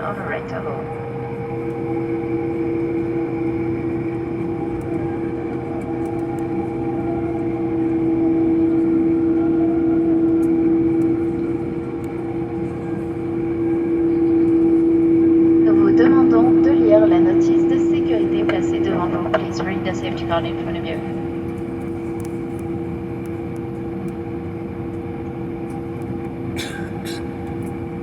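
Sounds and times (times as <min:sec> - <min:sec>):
low hum: 0:00.0 - 0:22.7
jet engine whine: 0:00.0 - 0:28.0.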